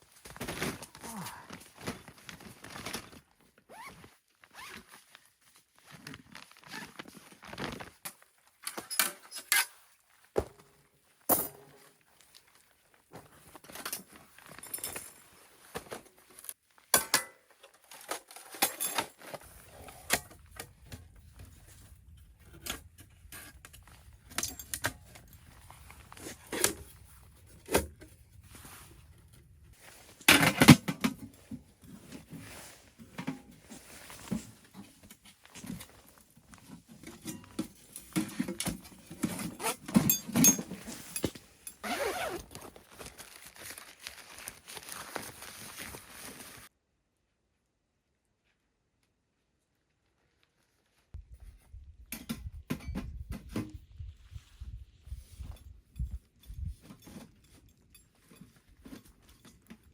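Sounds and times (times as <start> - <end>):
camping gear clinking and knocking: 0.0 - 45.9, 52.0 - 54.1, 55.0 - 59.9.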